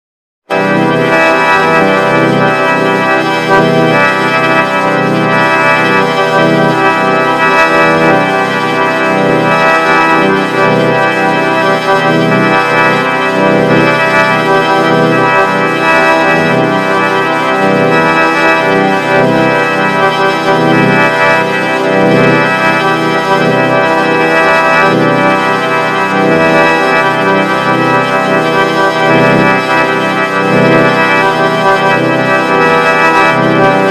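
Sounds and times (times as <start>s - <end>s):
vocoder chord: 0.5s - 33.9s.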